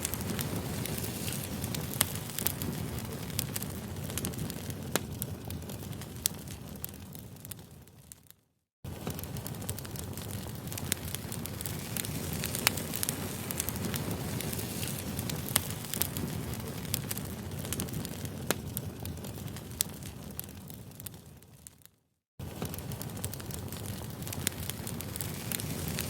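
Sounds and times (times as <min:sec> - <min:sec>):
campfire flames rushing: 0:00.0 - 0:08.2, 0:08.9 - 0:21.7, 0:22.4 - 0:26.0
fire popping and snapping: 0:00.0 - 0:26.0.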